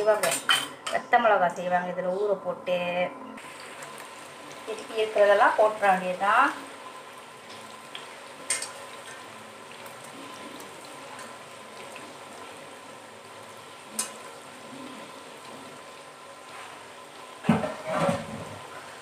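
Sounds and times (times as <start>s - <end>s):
beans sizzling in hot oil: 3.4s - 19.0s.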